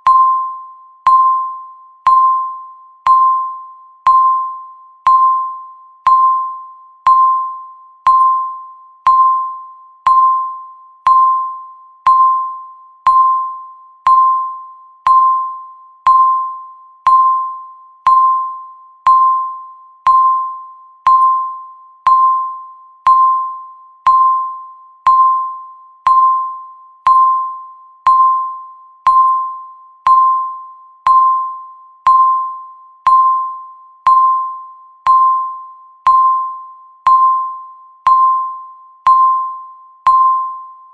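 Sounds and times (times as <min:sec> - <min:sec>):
timer beeps: 0:00.0 - 0:40.9.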